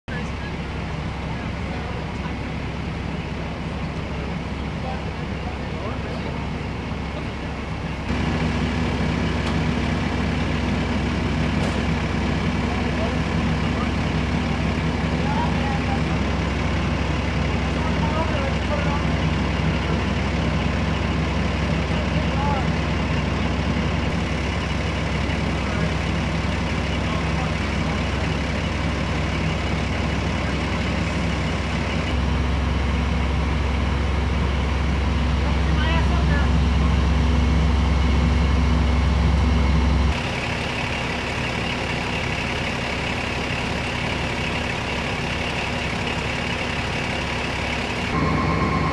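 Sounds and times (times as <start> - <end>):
fire truck engines idling: 0.1 - 48.9.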